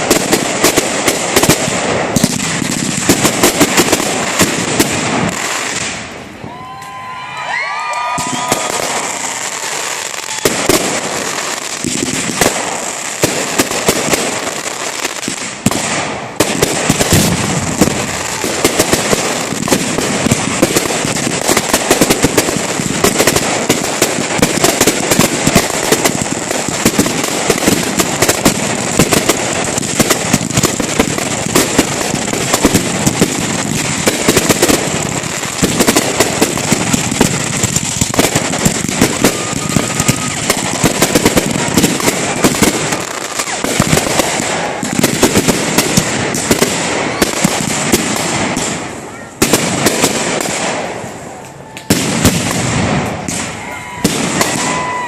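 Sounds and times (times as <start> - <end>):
fireworks popping and banging: 0.0 - 55.0.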